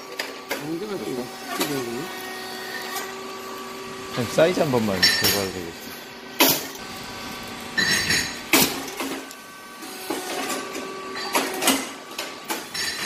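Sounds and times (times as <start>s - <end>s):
faint machine hum: 0.0s - 13.0s.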